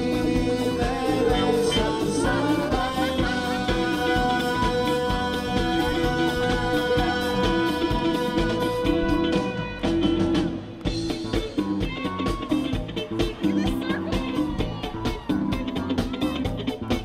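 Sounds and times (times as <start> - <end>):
drum kit: 0.0 - 17.0
electric guitar: 0.0 - 17.0
live band playing: 0.0 - 17.0.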